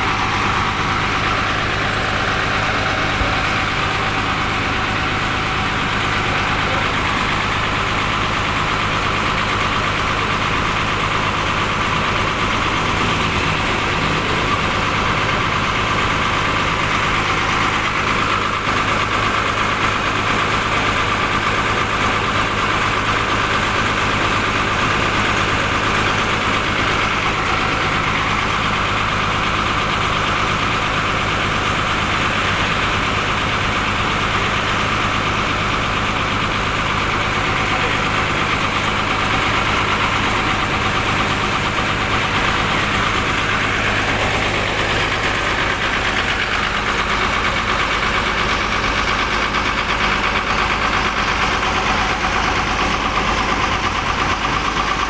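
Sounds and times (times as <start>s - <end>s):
bus diesel engine idling: 0.0s - 55.0s.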